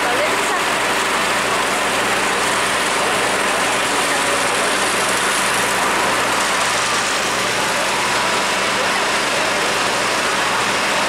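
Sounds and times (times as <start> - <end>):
truck engines running: 0.0 - 11.0.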